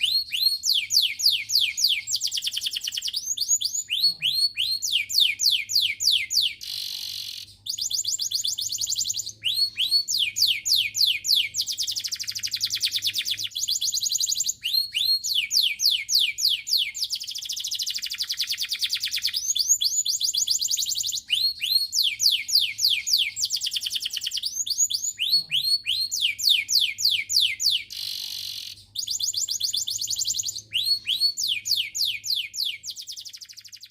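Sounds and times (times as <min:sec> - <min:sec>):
canary trilling: 0:00.0 - 0:33.9.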